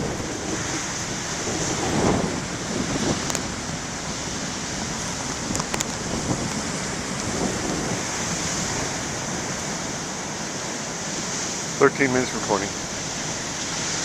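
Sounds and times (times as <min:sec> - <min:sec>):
waves breaking in heavy surf: 0:00.0 - 0:14.0
wind buffeting microphone: 0:00.0 - 0:14.0.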